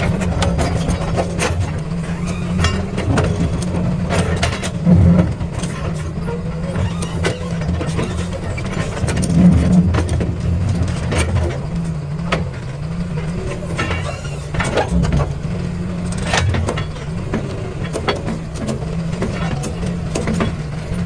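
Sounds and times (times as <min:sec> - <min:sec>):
excavator engine running: 0:00.0 - 0:21.0.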